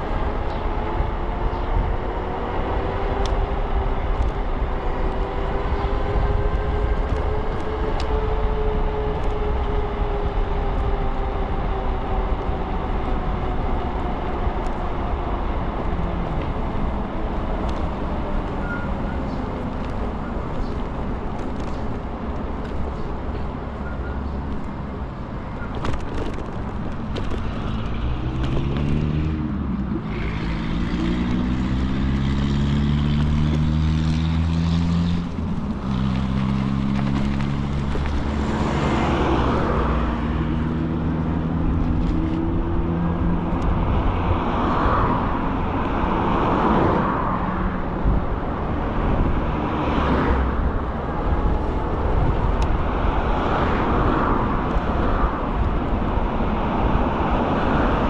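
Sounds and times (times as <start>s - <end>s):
wind and tyre noise: 0.0s - 58.0s.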